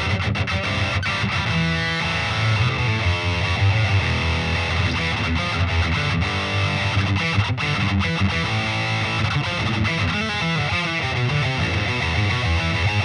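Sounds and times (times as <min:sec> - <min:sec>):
distorted electric guitar riffs: 0:00.0 - 0:13.0.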